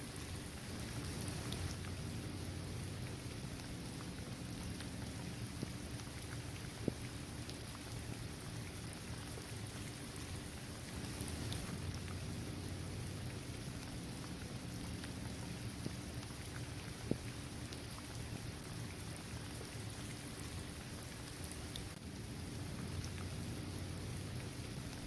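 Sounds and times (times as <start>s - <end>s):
rain hissing: 0.0s - 25.0s
raindrop ticks: 0.0s - 25.0s.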